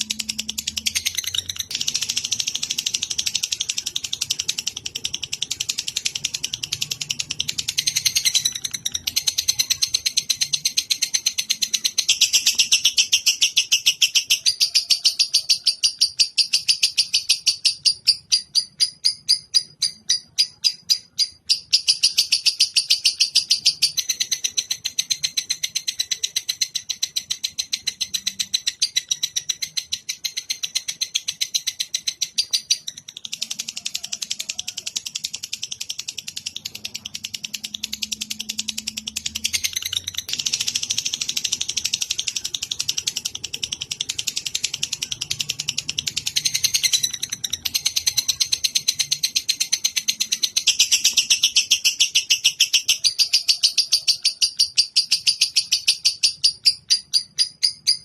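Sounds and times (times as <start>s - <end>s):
lovebird rapid chatter: 0.0s - 58.0s.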